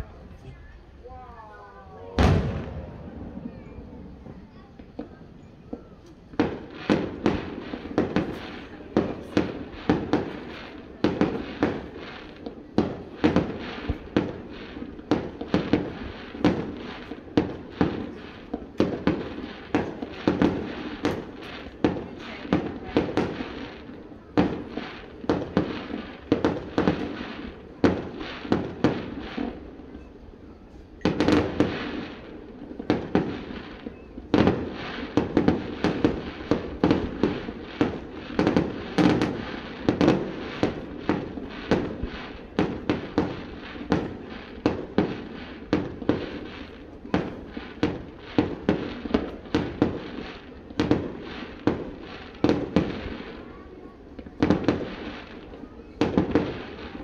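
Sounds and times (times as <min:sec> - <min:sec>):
fireworks bangs echoing: 0:00.0 - 0:57.0.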